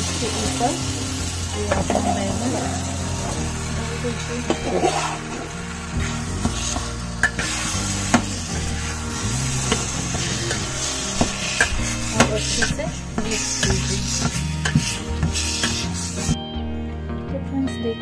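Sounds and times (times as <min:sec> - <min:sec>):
food sizzling: 0:00.0 - 0:16.8
spatula stirring food: 0:01.1 - 0:16.4.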